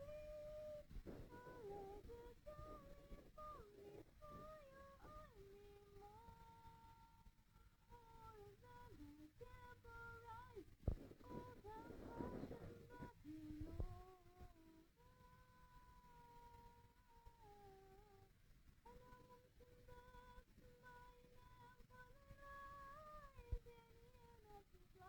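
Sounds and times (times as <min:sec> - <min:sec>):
person humming held notes: 0:00.0 - 0:18.3, 0:18.9 - 0:25.0.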